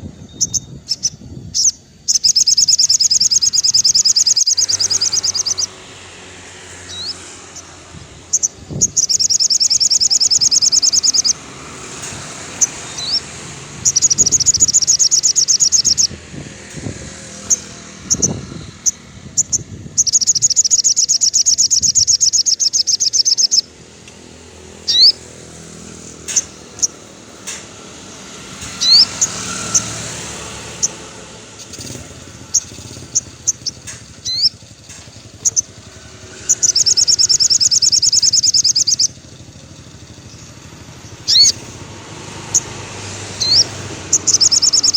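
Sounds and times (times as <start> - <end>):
songbird trilling and chirping: 0.0 - 44.9.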